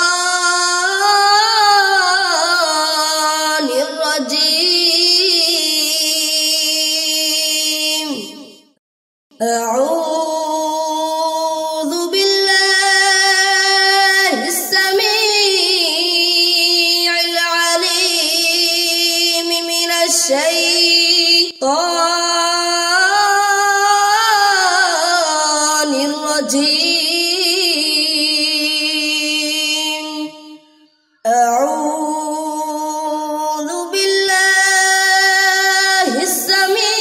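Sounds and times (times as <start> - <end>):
boy reciting melodically: 0.0 - 8.4, 9.4 - 30.6, 31.3 - 37.0.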